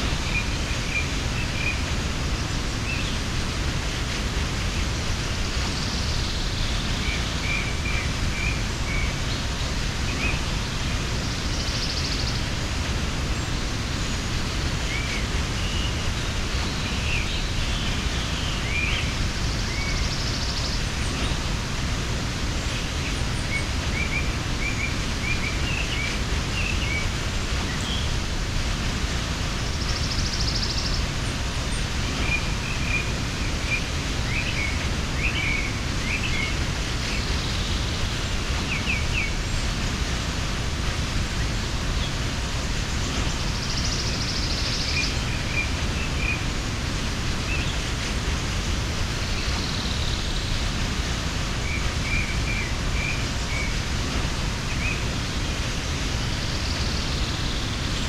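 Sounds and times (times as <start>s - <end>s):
small birds chirping: 0.0s - 58.0s
waterfall rushing: 0.0s - 58.0s.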